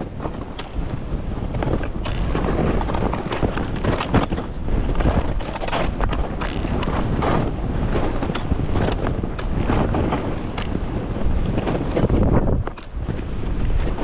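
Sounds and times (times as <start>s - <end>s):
skis scraping over snow: 0.0s - 14.0s
wind on camera microphone: 0.0s - 14.0s.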